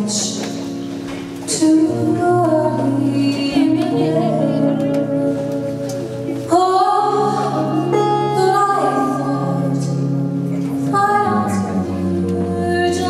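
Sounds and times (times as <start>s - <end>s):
woman singing into a microphone: 0.0s - 0.8s, 1.4s - 13.0s
electric guitar: 0.0s - 13.0s.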